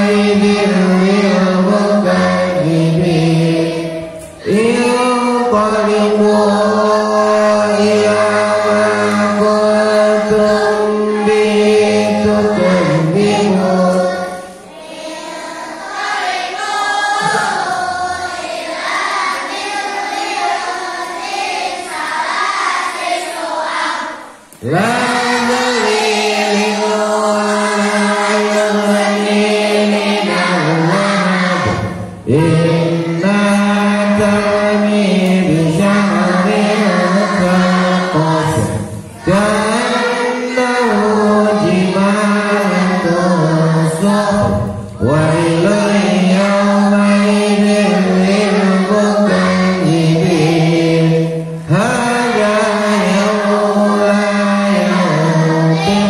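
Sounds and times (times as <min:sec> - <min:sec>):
children chanting in unison: 0:00.0 - 0:56.0.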